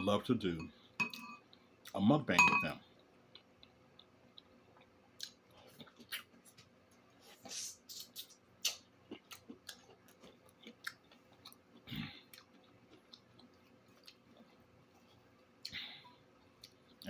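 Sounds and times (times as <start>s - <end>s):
person chewing food: 2.9s - 17.0s.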